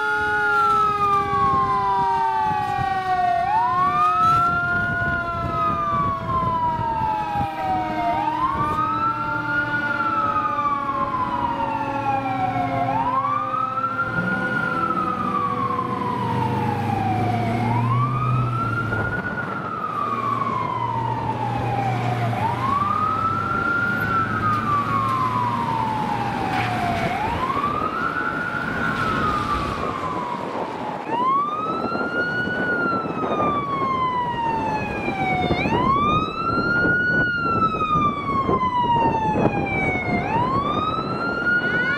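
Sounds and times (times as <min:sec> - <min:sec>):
fire engine siren wailing: 0:00.0 - 0:41.9
truck engine rumbling: 0:00.0 - 0:41.9.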